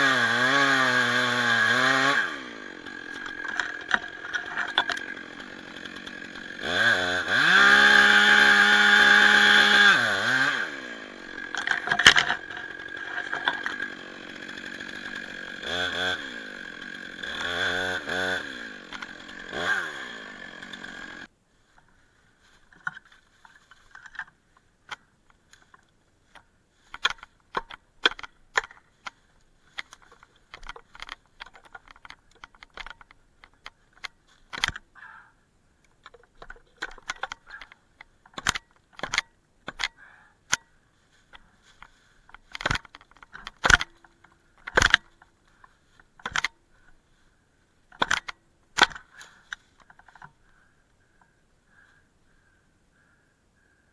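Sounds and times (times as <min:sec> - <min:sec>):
chainsaw cutting: 0:00.0 - 0:21.3, 0:22.4 - 0:34.9, 0:36.0 - 0:50.4.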